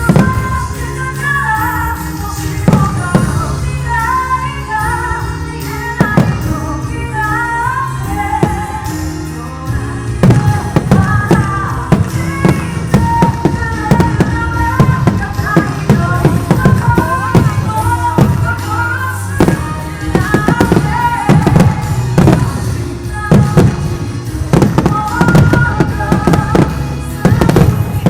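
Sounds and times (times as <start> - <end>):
band accompaniment: 0.0 - 28.0
fireworks bursting: 0.0 - 28.0
woman singing pop song: 0.0 - 28.0.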